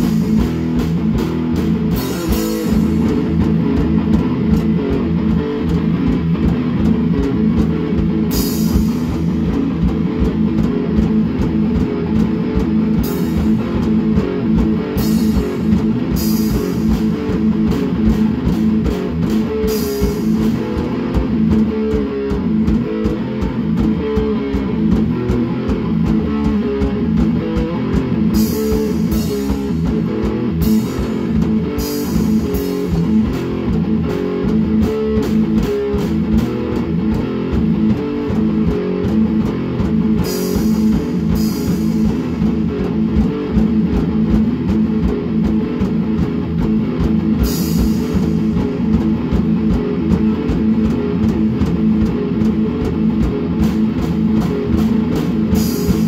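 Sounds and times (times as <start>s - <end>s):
drum kit beat: 0.0s - 56.0s
rock guitar chords: 0.0s - 56.0s.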